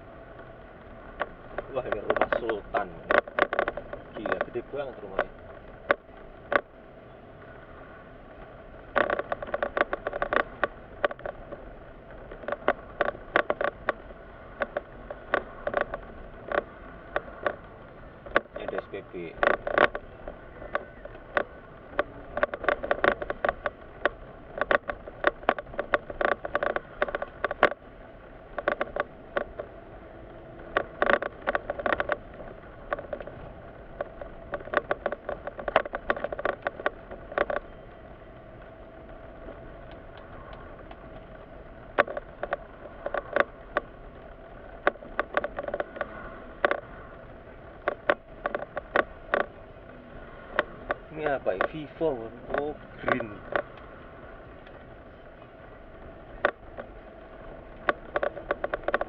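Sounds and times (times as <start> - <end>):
road and engine noise: 0.0 - 59.0
rattling clicks: 0.2 - 6.8, 7.4 - 59.0.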